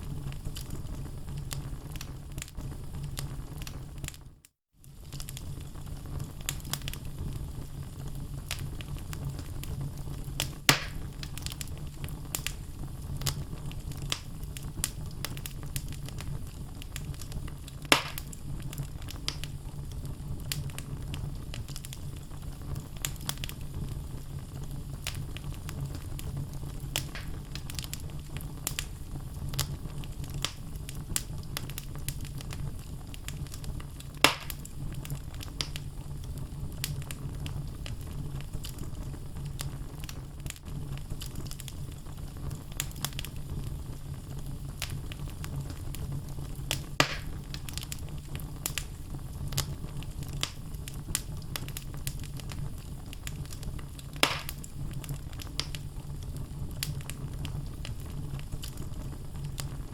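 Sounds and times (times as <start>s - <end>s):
flames rumbling: 0.0s - 59.9s
loud fire pops: 0.0s - 59.9s
wood fire crackling: 0.0s - 59.9s.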